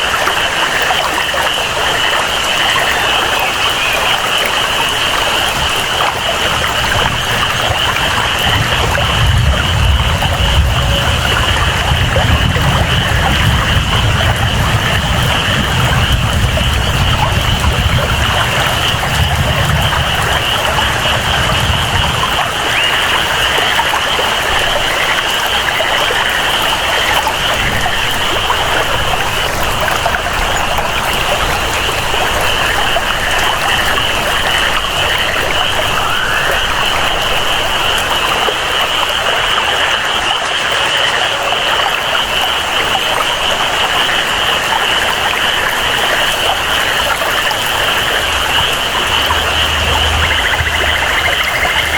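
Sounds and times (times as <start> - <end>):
chorus of calling frogs or insects: 0.0 - 51.9
running water: 0.0 - 51.9
steady rain: 0.0 - 51.9.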